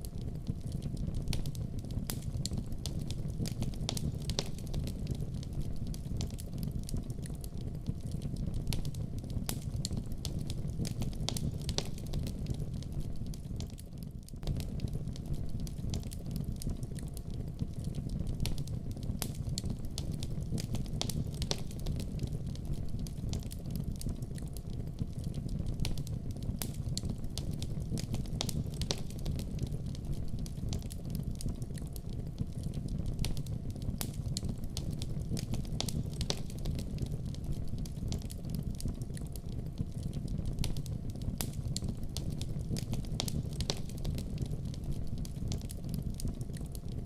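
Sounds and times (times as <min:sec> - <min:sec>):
fire crackling and popping: 0:00.0 - 0:47.0.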